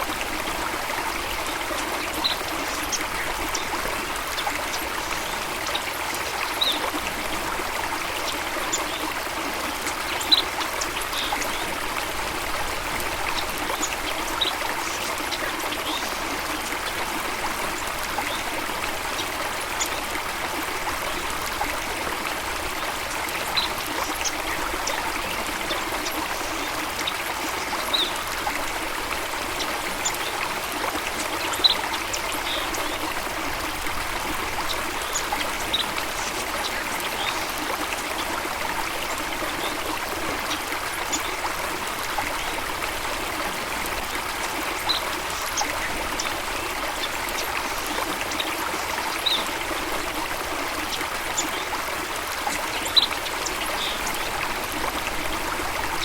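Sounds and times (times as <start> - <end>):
water trickling and babbling: 0.0 - 56.0.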